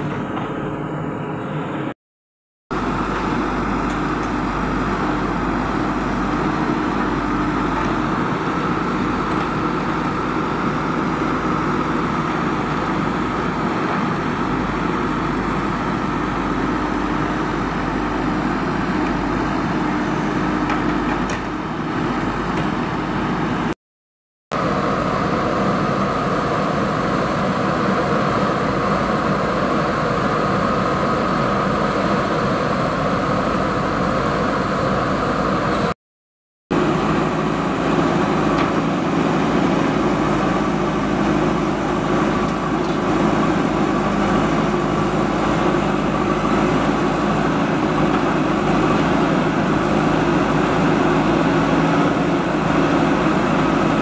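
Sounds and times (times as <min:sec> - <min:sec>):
diesel engine running: 0:02.7 - 0:23.8, 0:24.5 - 0:36.0, 0:36.7 - 0:54.0.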